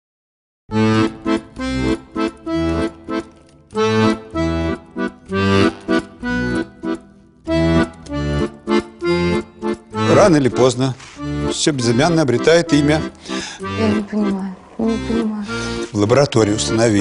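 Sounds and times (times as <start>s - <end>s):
accordion music: 0.7s - 17.0s.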